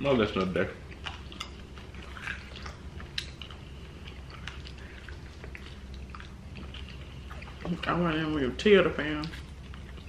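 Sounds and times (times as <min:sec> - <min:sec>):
low steady hum: 0:00.0 - 0:10.0
people chewing crunchy food: 0:00.0 - 0:10.0.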